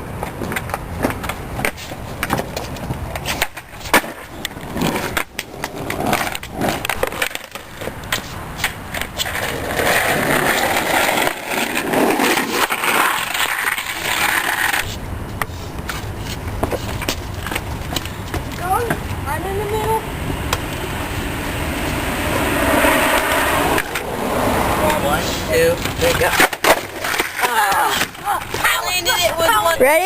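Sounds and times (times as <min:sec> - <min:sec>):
skateboards clacking on pavement: 0:00.0 - 0:20.8, 0:22.8 - 0:30.0
skateboard wheels rolling: 0:00.0 - 0:30.0.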